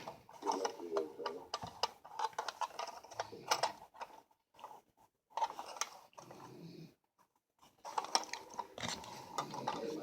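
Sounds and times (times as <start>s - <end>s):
small parts clicking and scraping: 0.0s - 6.5s, 7.6s - 10.0s.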